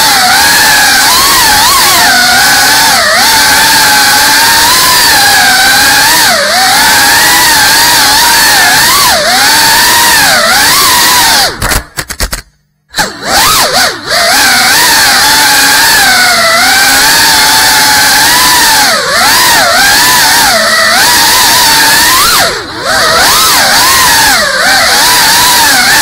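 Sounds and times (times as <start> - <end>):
drone motors whining: 0.0 - 11.8, 12.9 - 26.0.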